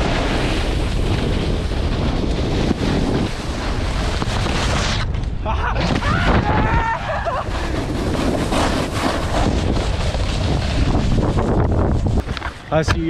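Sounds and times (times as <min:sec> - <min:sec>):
snowboard edges scraping snow: 0:00.0 - 0:05.2, 0:06.7 - 0:13.0
wind rushing over microphone: 0:00.0 - 0:13.0.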